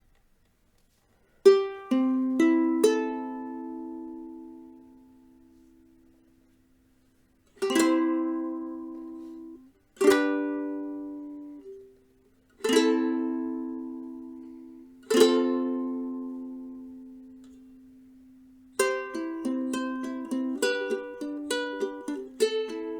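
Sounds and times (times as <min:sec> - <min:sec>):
ukulele chords strummed: 0:01.4 - 0:06.1, 0:07.5 - 0:22.9.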